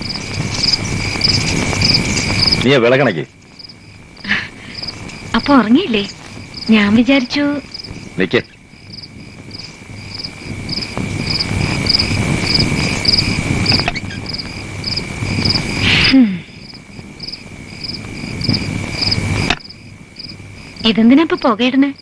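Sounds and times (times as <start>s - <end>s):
rough noise: 0.0s - 21.6s
cricket chirp: 0.0s - 22.0s
crickets trilling: 0.0s - 22.0s.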